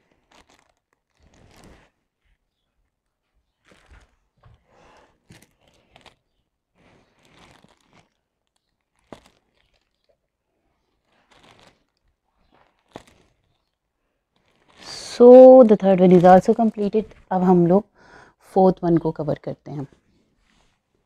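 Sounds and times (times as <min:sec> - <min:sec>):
canvas and plastic film crinkling: 0:00.0 - 0:18.0, 0:18.8 - 0:21.0.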